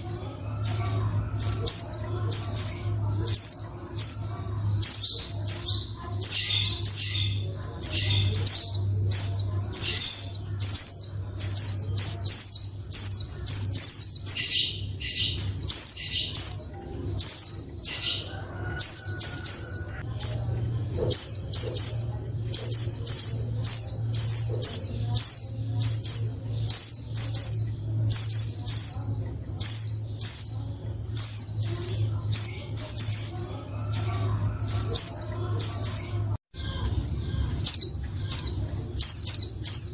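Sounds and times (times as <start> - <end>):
bird high chirps: 0.0 - 39.9.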